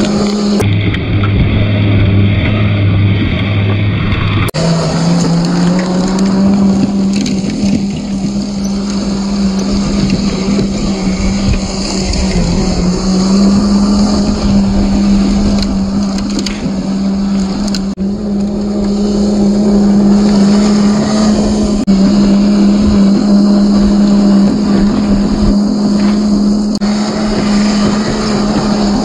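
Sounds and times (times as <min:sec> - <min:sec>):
slowed rc car motor drone: 0:00.0 - 0:29.0.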